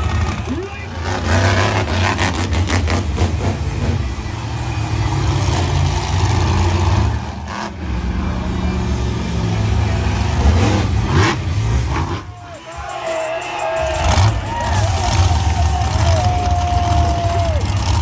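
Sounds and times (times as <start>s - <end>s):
truck engine at high revs: 0.0s - 12.7s, 13.8s - 18.0s.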